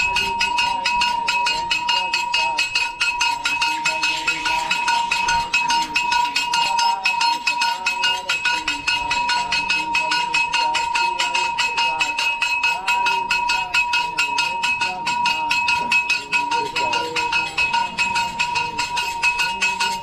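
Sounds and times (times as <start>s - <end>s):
rapid ringing strikes: 0.0s - 20.0s
steady ringing tone: 0.0s - 20.0s
voices: 0.0s - 20.0s.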